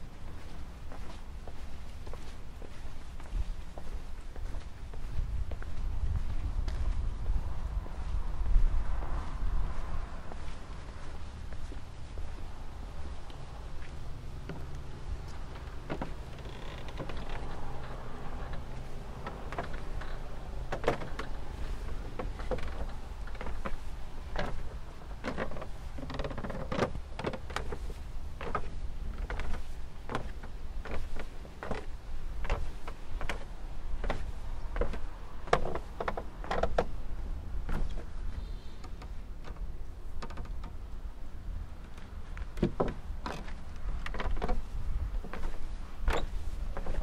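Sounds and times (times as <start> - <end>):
footsteps on stone paving: 0.0 - 38.4, 41.8 - 47.0
wind rumble on microphone: 0.0 - 47.0.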